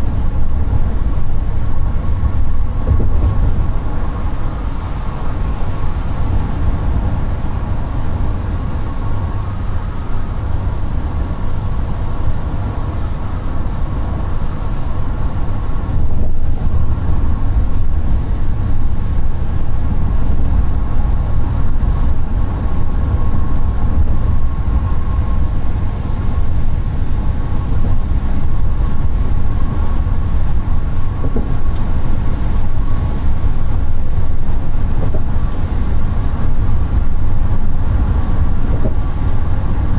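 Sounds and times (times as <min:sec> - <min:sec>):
road and engine rumble: 0:00.0 - 0:39.9
thin steady whine: 0:00.0 - 0:39.9.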